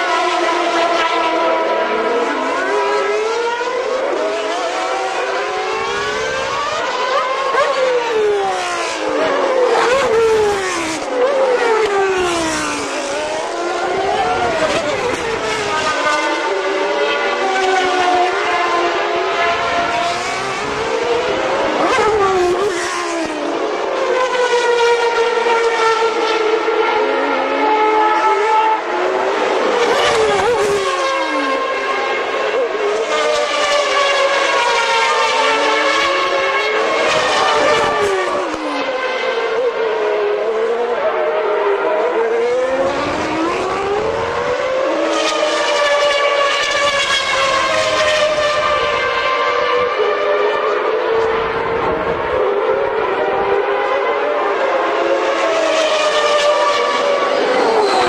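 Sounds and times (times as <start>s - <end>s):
racing car engines passing: 0.0s - 58.0s.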